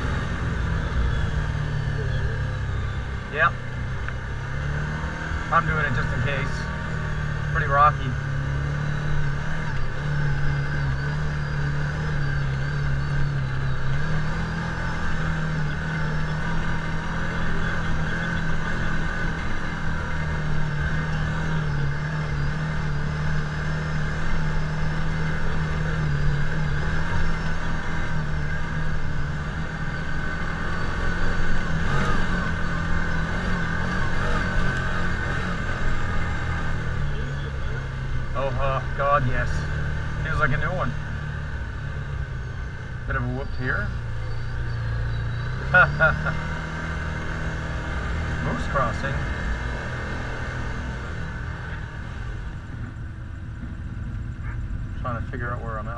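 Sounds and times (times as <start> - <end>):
utility vehicle engine under load: 0.0 - 55.9.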